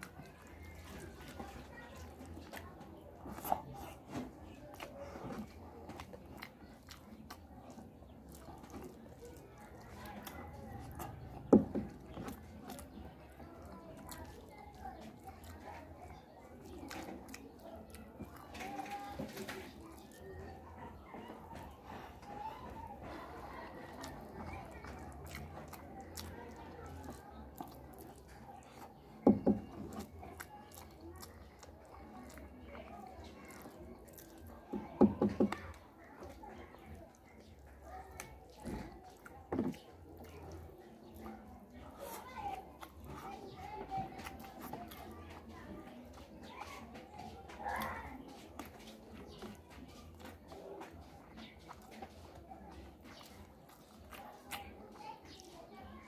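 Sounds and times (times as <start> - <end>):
chewing and biting mouth sounds: 0.0 - 56.0
faint wet clicks: 0.0 - 56.0
hand squishing wet rice: 0.0 - 56.0.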